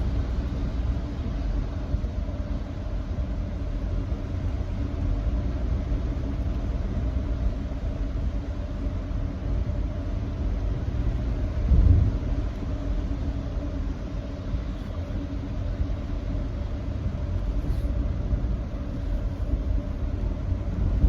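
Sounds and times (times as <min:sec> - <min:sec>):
road and tyre rumble: 0:00.0 - 0:21.0.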